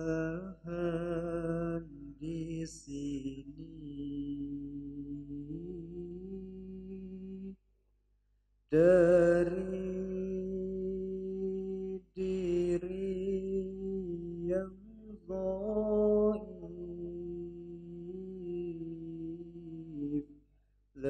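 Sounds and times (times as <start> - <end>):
man singing into a microphone: 0.0 - 7.5, 8.7 - 20.2.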